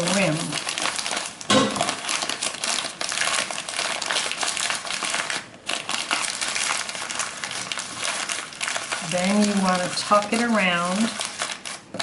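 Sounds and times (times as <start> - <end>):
newspaper rustling and crinkling: 0.0 - 12.0.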